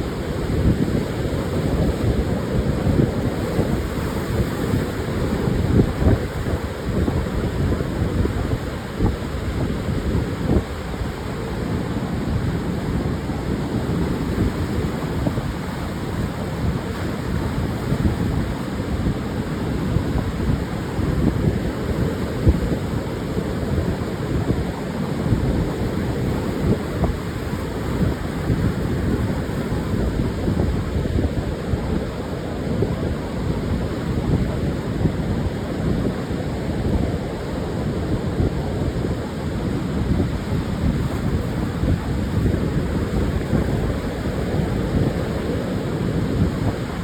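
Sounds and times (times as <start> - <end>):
surf washing onto beach: 0.0 - 47.0
wind buffeting microphone: 0.0 - 47.0.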